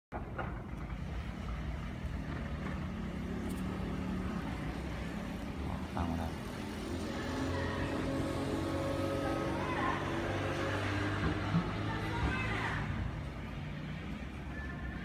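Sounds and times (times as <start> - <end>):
street traffic rumble: 0.1 - 15.0
faint engine hum: 0.2 - 15.0.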